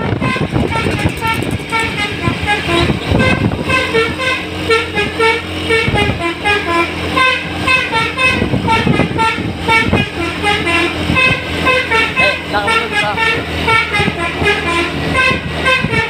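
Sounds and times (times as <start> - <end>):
musical bus horn: 0.0 - 16.0
vehicle engine noise: 0.0 - 16.0.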